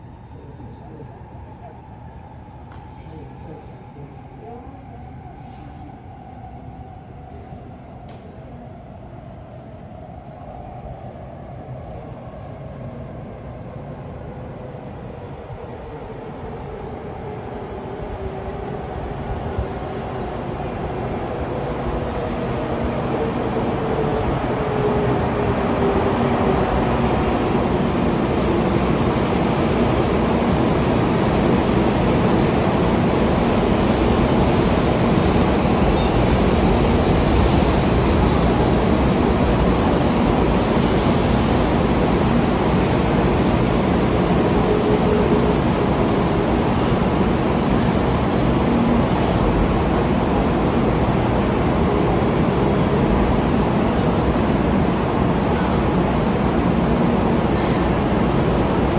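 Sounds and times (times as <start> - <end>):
train rushing past platform: 0.0 - 58.9.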